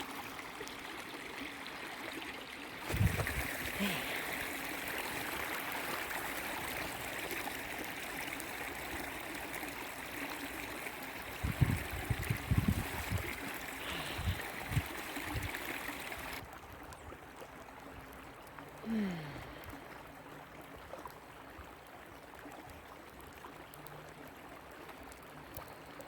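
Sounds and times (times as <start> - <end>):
creek babbling over rocks: 0.0 - 26.0.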